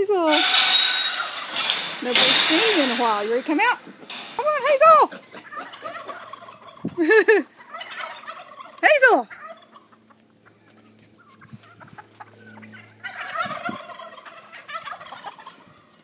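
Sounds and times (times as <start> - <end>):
poultry warbling calls: 0.3 - 7.0, 7.6 - 16.0.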